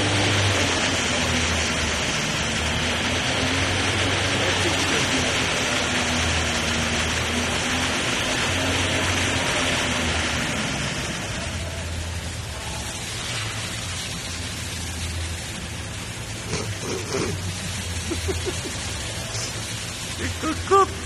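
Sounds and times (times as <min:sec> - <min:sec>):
diesel engine racing: 0:00.0 - 0:21.0.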